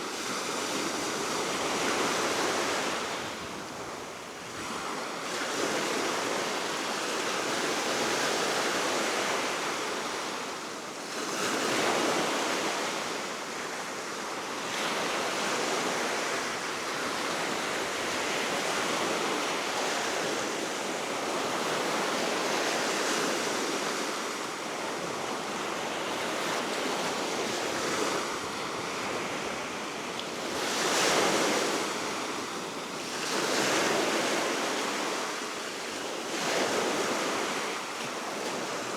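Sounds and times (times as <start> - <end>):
wind: 0.0 - 38.9.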